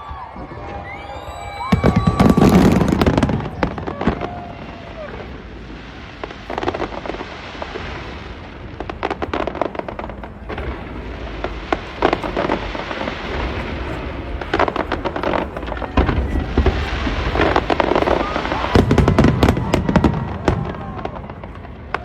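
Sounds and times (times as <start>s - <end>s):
fireworks crackling pops: 0.0s - 22.0s.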